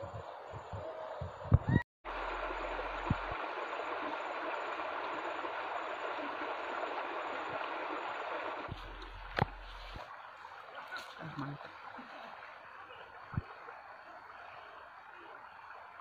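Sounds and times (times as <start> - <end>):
stream babbling over stones: 2.1 - 16.0.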